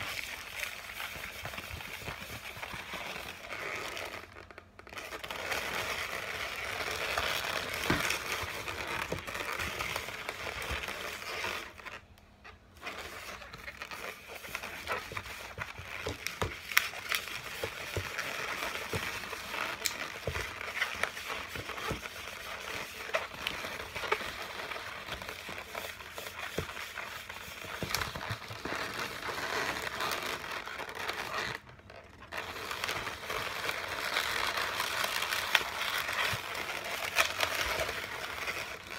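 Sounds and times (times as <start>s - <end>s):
balloons squeaking and rubbing: 0.0s - 38.9s.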